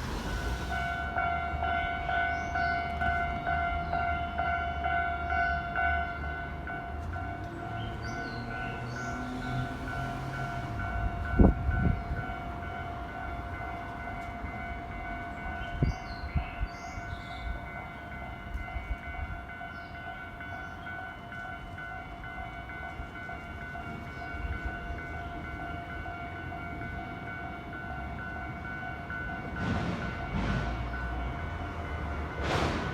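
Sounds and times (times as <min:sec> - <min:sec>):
level-crossing warning bell: 0:00.0 - 0:32.9
train rumbling past: 0:00.0 - 0:32.9.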